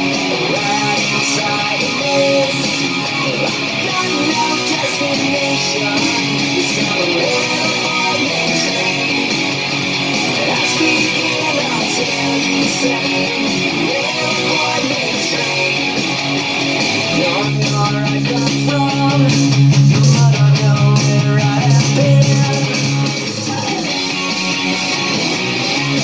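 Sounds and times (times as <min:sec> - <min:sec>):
electric guitar strummed chords: 0:00.0 - 0:26.0.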